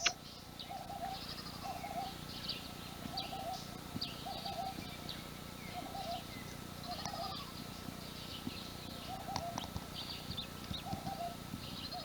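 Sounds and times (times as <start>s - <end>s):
high bird chirps and trills: 0.0s - 12.0s.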